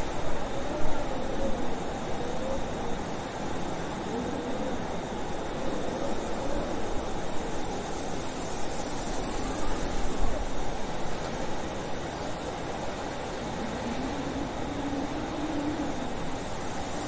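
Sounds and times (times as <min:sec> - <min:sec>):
blizzard wind blowing hard: 0:00.0 - 0:17.0.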